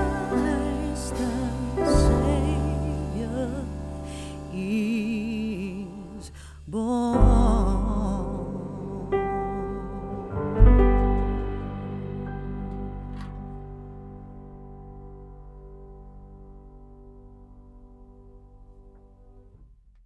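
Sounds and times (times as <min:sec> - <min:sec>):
slow tender music: 0:00.0 - 0:19.6.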